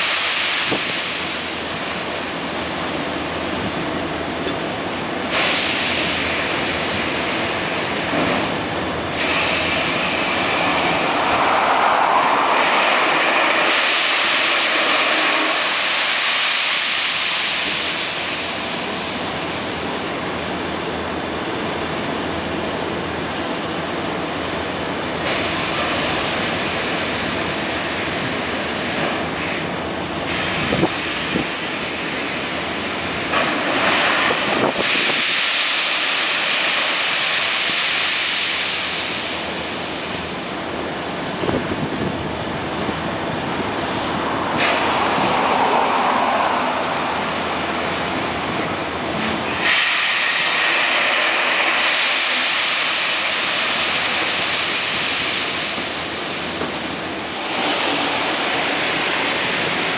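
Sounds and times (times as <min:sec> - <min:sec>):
train wheels grinding on rail: 0:00.0 - 0:59.9.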